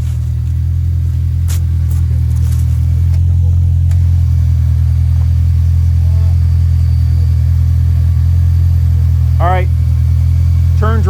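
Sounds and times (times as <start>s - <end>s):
utility vehicle engine droning: 0.0s - 11.0s.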